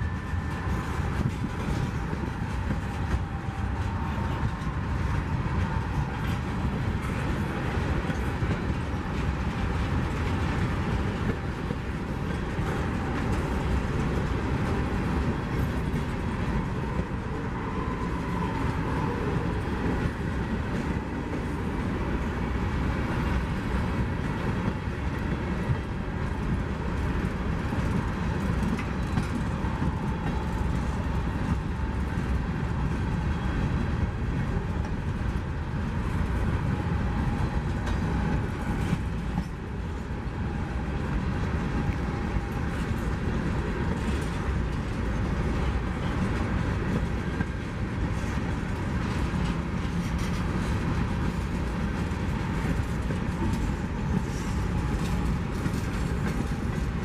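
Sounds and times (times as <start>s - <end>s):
train wheels rolling on rail: 0.0s - 57.0s.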